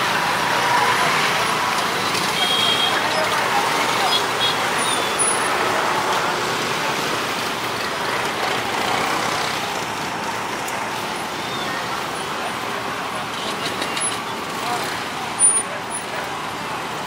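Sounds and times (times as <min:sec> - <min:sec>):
many motorcycle engines running: 0:00.0 - 0:17.0.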